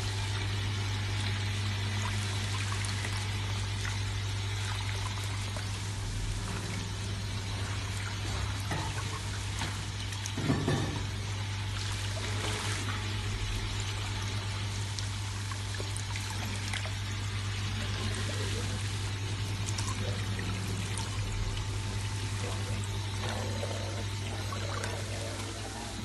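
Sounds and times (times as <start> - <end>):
steady low hum: 0.0 - 26.0
water pouring into a basin: 0.0 - 26.0.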